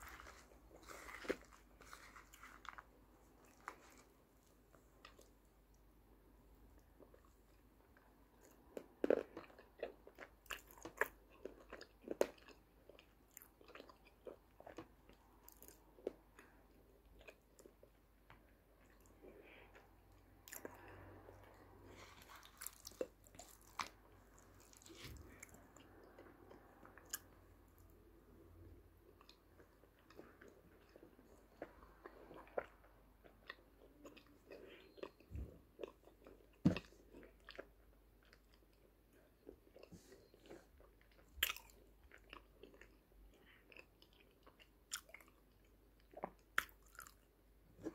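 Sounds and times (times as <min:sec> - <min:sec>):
person chewing clay: 0:00.0 - 0:05.8, 0:06.6 - 0:47.9.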